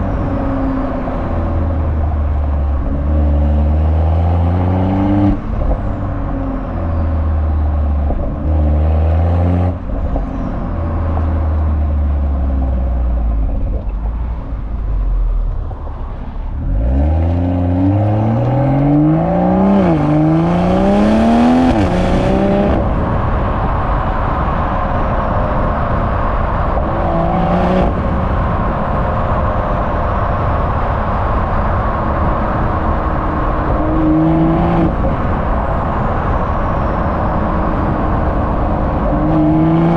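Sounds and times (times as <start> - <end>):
car engine revving and accelerating: 0.0 - 13.9, 16.2 - 39.9.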